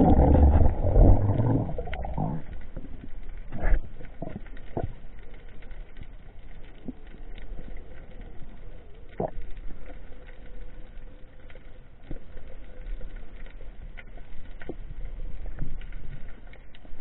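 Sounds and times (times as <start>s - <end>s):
clicks and crackles: 0.0s - 17.0s
underwater rumble: 0.0s - 17.0s.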